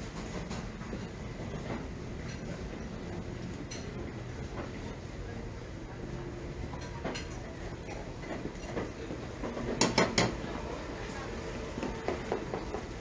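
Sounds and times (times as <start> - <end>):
market street din: 0.0 - 13.0.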